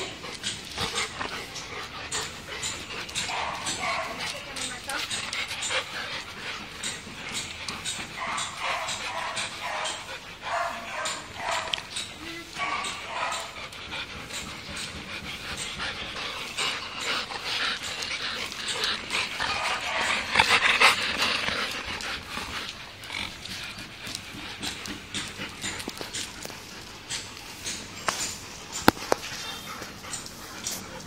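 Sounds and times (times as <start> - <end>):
dog breathing noisily: 0.0 - 12.2, 12.9 - 31.0
dog snuffling and scraping: 0.0 - 31.0.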